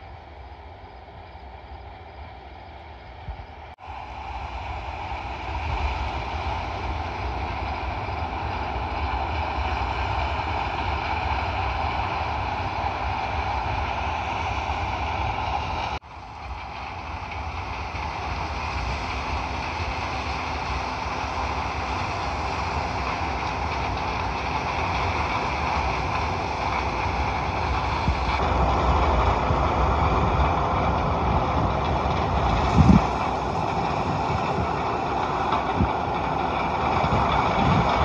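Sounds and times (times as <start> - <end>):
dense mechanical noise: 0.0 - 38.0
farm machinery engine hum: 0.0 - 38.0.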